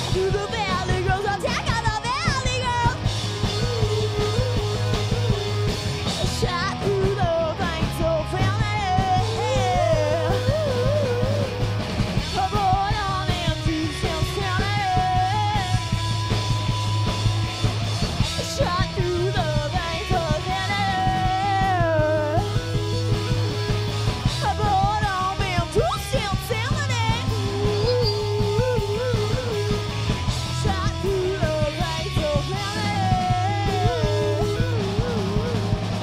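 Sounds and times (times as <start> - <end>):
woman singing: 0.0 - 16.0, 18.2 - 23.2, 24.2 - 36.0
bass guitar: 0.0 - 36.0
electric guitar: 0.0 - 36.0
fast driving drum beat: 0.0 - 36.0.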